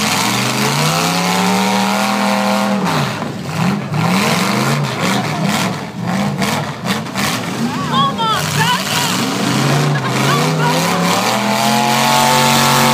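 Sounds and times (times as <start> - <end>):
car engine revving hard: 0.0 - 12.9.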